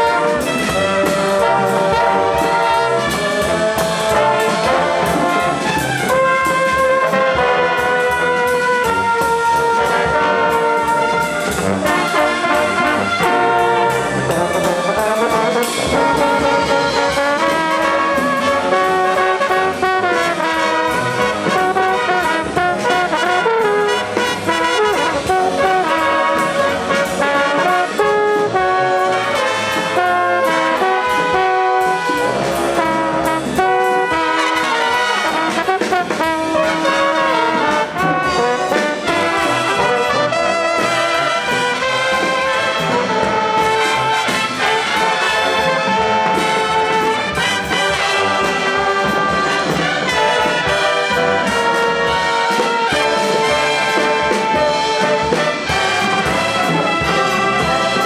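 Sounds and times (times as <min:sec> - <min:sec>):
brass horns playing melody: 0:00.0 - 0:58.0
drum kit and percussion: 0:00.0 - 0:58.0.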